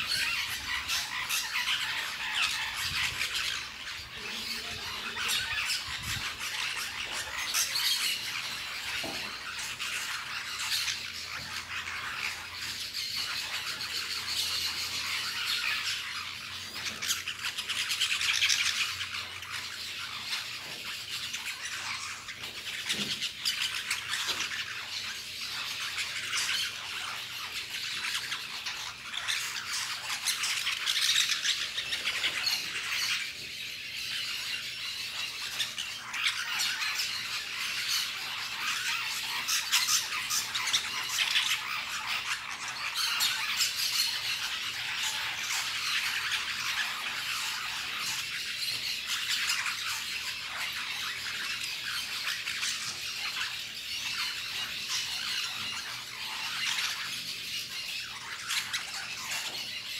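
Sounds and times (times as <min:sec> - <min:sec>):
parakeets squawking: 0:00.0 - 0:59.9.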